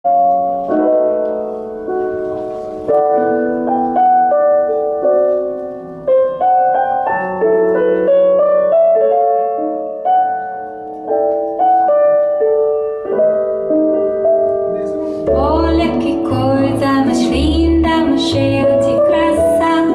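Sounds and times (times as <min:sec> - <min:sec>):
bossa nova piano over loudspeakers: 0:00.0 - 0:19.9.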